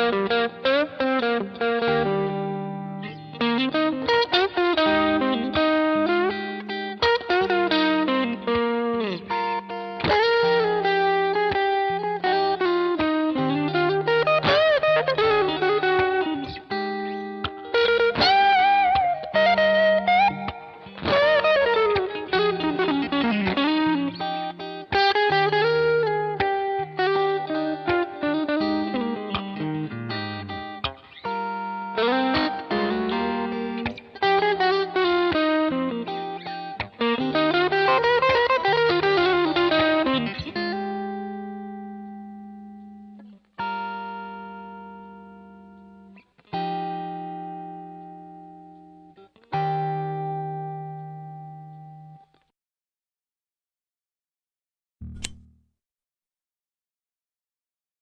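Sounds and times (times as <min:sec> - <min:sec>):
overdriven electric guitar lead: 0:00.0 - 0:52.4, 0:55.0 - 0:55.6.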